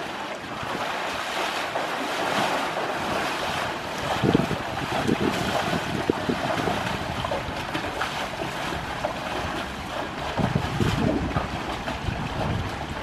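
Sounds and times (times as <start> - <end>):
water splashing and sloshing: 0.0 - 13.0
wind buffeting microphone: 2.4 - 13.0.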